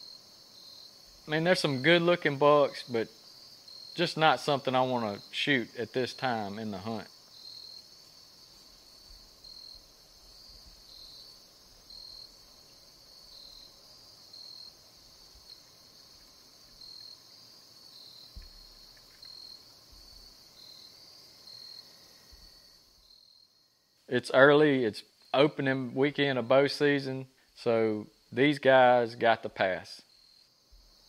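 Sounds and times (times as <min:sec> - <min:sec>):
insect chirps: 0:00.0 - 0:31.0
insect trill: 0:00.0 - 0:31.0.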